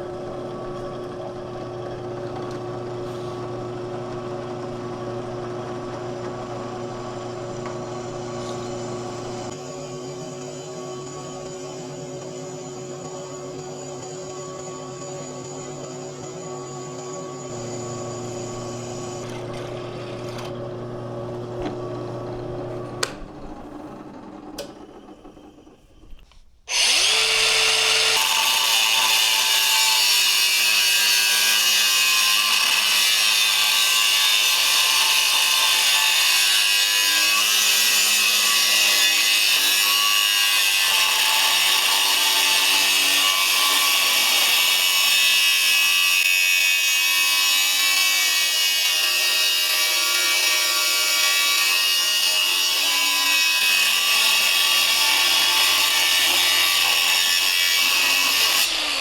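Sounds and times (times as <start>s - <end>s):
power tool grinding: 0.0s - 59.0s.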